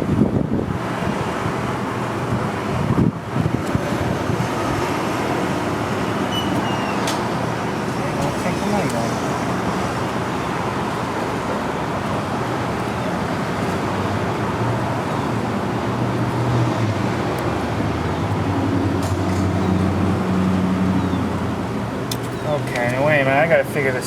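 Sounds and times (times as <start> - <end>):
low engine hum: 0.0 - 23.1
passing vehicles rushing: 0.0 - 24.0.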